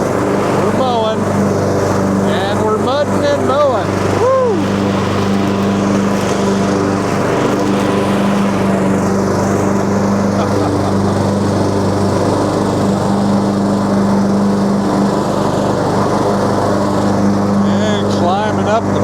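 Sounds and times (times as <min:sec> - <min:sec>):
riding lawn mower mowing: 0:00.0 - 0:19.0.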